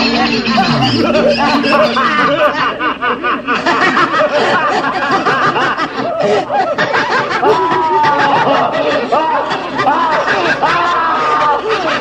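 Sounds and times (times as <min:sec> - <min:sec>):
voices cackling and laughing: 0:00.0 - 0:12.0.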